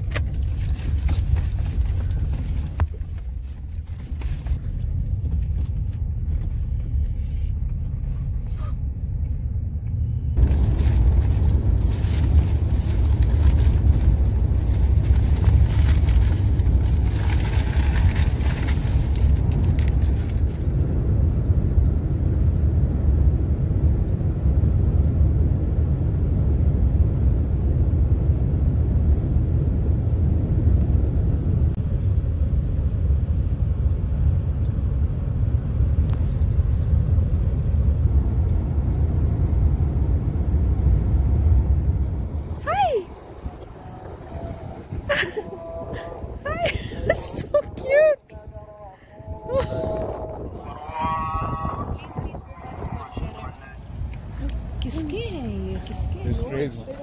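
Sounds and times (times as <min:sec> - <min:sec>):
road and engine rumble: 0:00.0 - 0:57.0.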